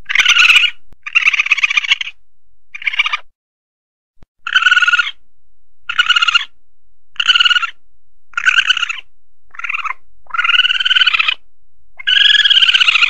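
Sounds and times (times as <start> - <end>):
civet calling: 0.0 - 3.3, 4.4 - 5.2, 5.8 - 13.0.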